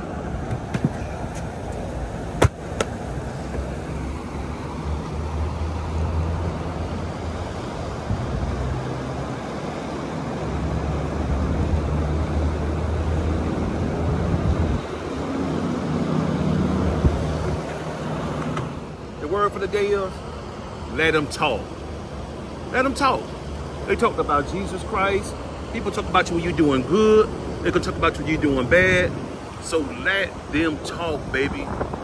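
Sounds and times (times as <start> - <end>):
car rumbling on the move: 0.0 - 29.7, 30.3 - 32.0.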